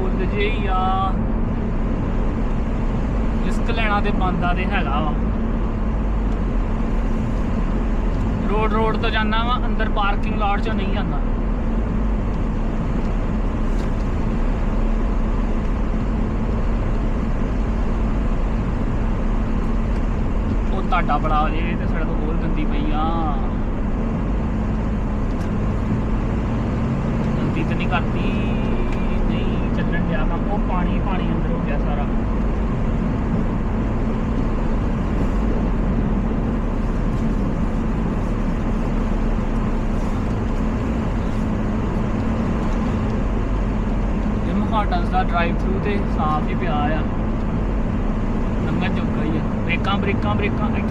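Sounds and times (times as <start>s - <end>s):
car cabin road rumble: 0.0s - 50.9s.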